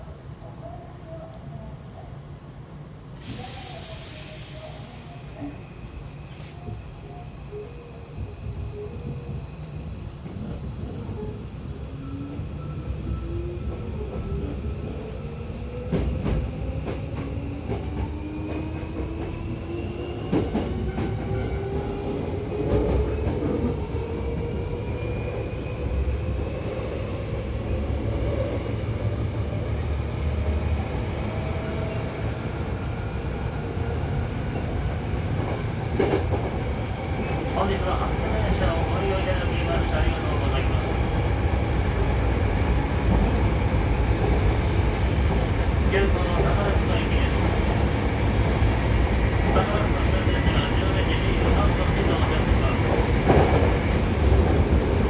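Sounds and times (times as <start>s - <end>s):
low train running rumble: 0.0s - 55.0s.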